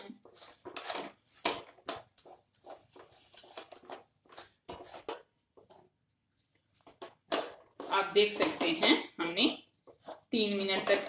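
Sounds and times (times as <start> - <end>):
wooden spatula scraping metal pan: 0.0 - 5.8, 6.9 - 11.0.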